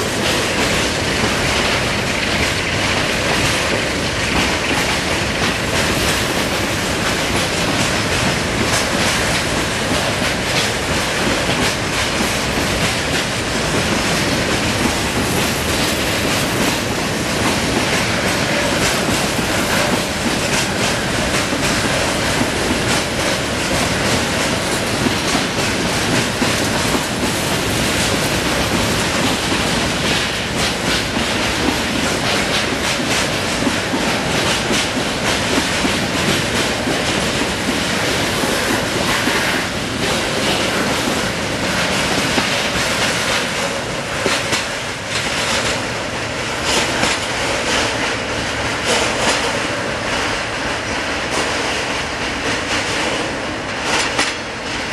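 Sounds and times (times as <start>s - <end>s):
train wheels clattering over track: 0.0s - 54.9s.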